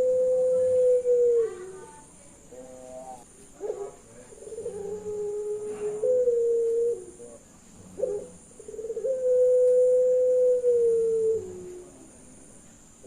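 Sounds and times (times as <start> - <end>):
dove cooing: 0.0 - 12.2.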